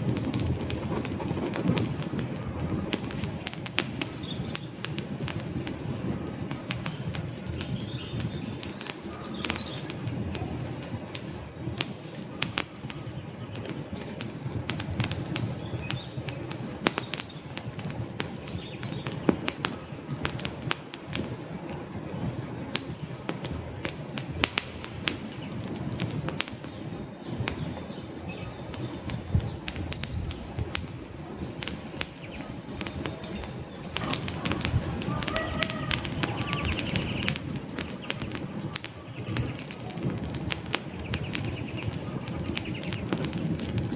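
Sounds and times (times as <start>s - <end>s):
burning logs crackling and popping: 0.0s - 43.9s
campfire flames rushing: 0.0s - 43.9s.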